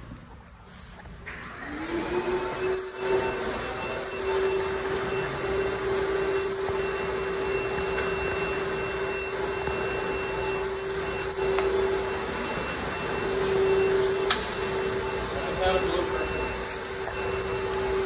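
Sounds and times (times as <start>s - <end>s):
pressure washer hum: 0.6s - 18.0s.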